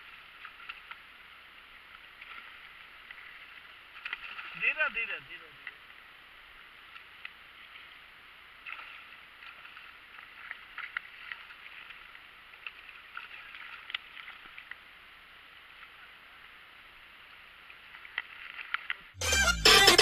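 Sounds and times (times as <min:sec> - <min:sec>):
light ticks of water: 0:00.0 - 0:04.6, 0:05.5 - 0:19.2
water lapping and splashing: 0:00.0 - 0:19.2.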